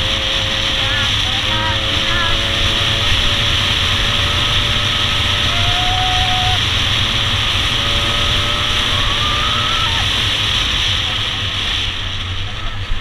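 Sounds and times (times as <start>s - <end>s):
dirt bike engine running: 0.0s - 13.0s
wind rushing on microphone: 0.0s - 13.0s.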